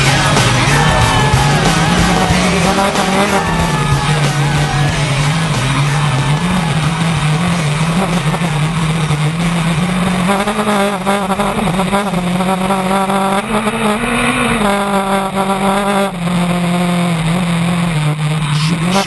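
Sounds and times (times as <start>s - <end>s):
off-road vehicle engine: 0.0s - 19.0s.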